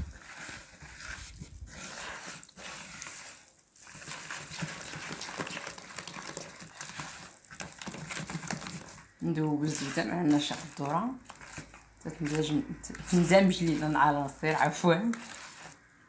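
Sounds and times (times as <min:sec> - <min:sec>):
hand squishing butter in bowl: 0:00.0 - 0:16.0.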